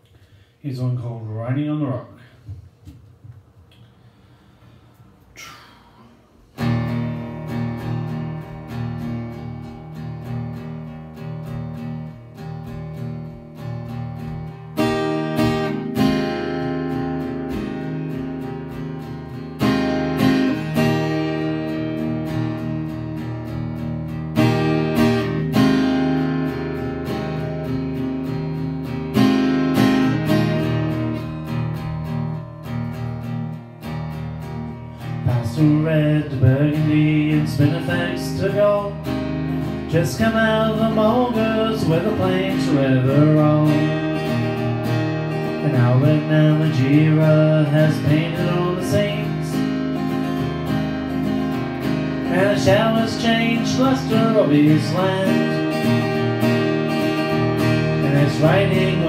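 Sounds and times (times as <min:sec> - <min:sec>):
acoustic guitar strumming: 0:03.8 - 0:59.0.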